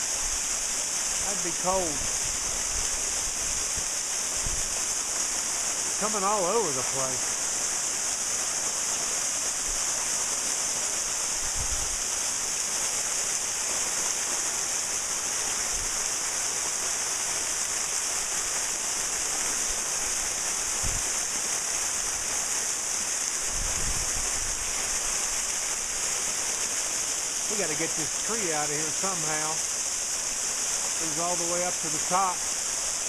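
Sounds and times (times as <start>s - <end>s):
waterfall pouring and splashing: 0.0s - 33.0s.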